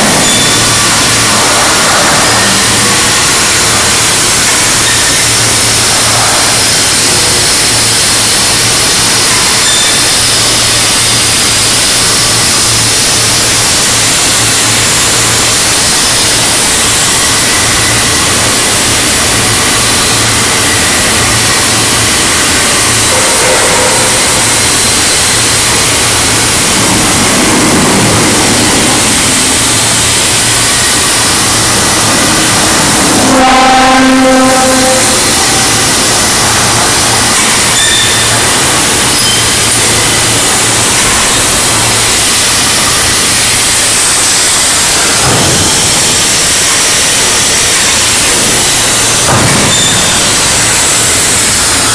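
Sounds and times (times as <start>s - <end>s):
overhead crane rumbling: 0.0s - 9.6s, 10.8s - 51.9s.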